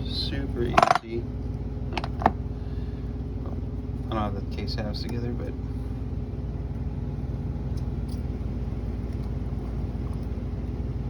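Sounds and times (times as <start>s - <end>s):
faint constant hum: 0.0s - 11.0s
motor rumbling: 0.0s - 11.0s.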